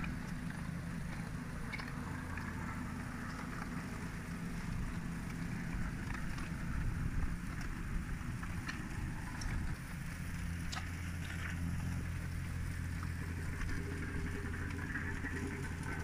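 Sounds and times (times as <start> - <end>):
machine engine humming: 0.0 - 16.0.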